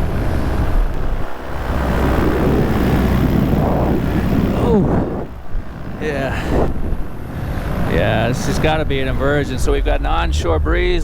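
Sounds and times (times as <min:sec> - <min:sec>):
paramotor engine and propeller: 0:00.0 - 0:11.0
wind on microphone: 0:00.0 - 0:11.0.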